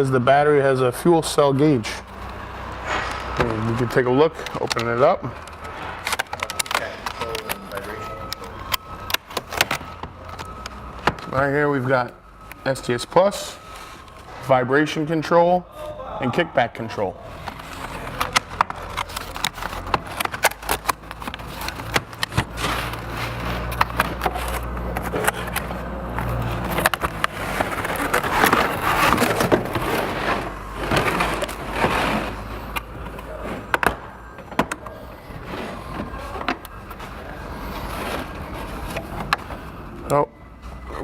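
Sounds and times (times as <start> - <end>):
packaging rustling and scraping: 0.9 - 15.4, 16.7 - 41.0.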